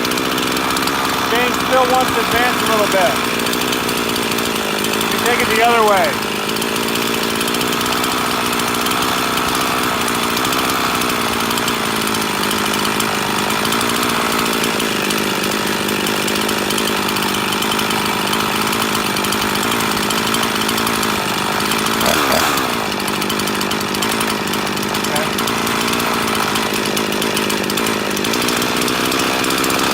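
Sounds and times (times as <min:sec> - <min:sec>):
chainsaw engine revving: 0:00.0 - 0:29.9
chainsaw idling: 0:00.0 - 0:29.9.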